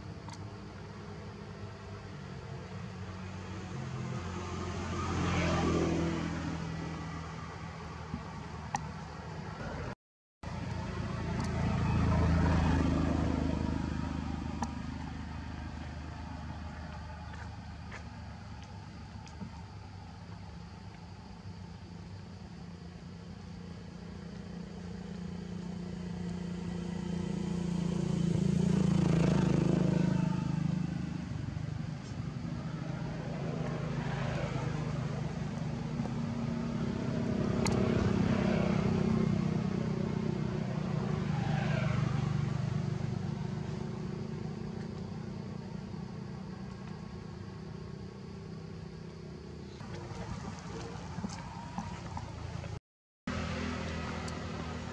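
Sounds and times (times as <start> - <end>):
vehicles passing by: 0.0 - 54.9.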